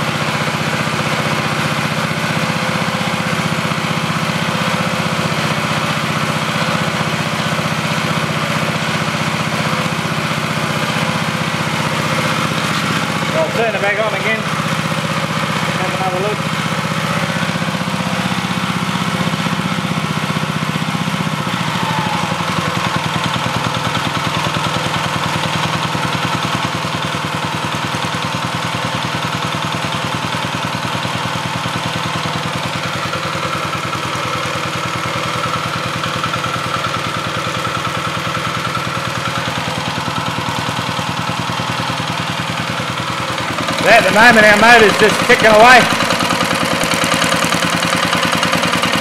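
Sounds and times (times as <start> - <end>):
small engine running near idle: 0.0 - 49.0.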